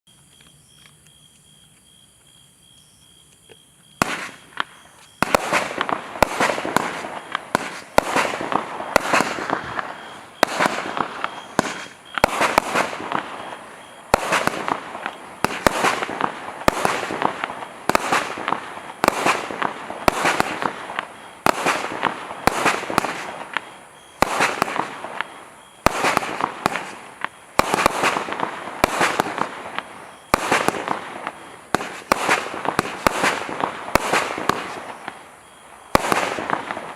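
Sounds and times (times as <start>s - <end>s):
firework crackling: 4.0s - 36.9s
firework shots: 4.0s - 36.9s.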